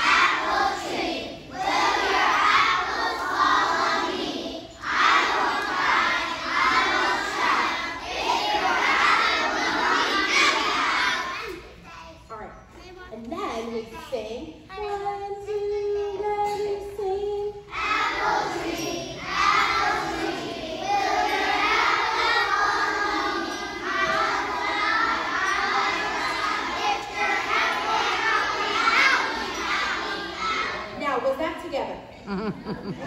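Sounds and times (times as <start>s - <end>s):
young children singing: 0.0s - 12.3s, 13.6s - 31.0s.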